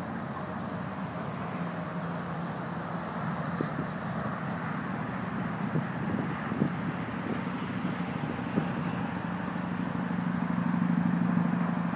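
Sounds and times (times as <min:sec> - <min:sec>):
distant traffic hum: 0:00.0 - 0:11.9.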